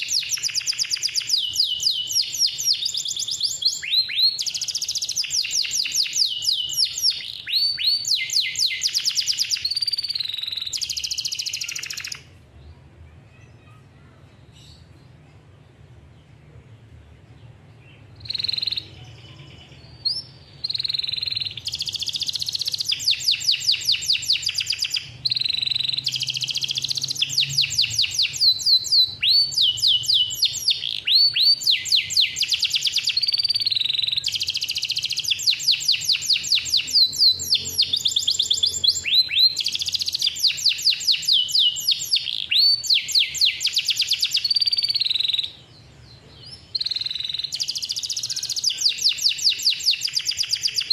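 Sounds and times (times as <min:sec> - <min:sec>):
canary singing trills: 0:00.0 - 0:12.4, 0:17.4 - 0:50.9.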